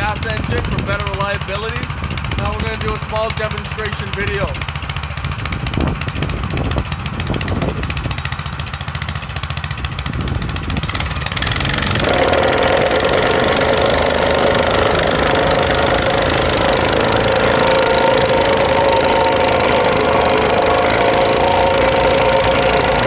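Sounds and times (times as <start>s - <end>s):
plate compactor engine: 0.0s - 23.0s.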